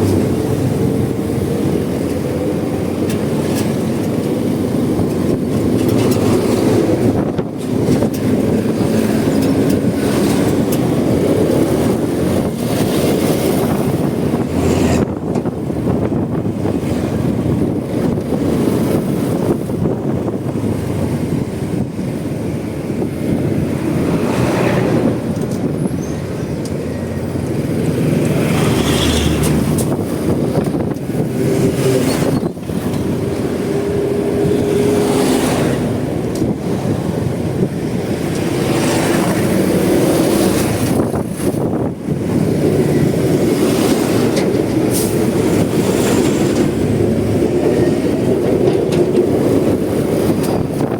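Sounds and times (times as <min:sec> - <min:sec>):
vehicles swishing past: 0:00.0 - 0:50.9
wind rush over microphone: 0:00.0 - 0:50.9.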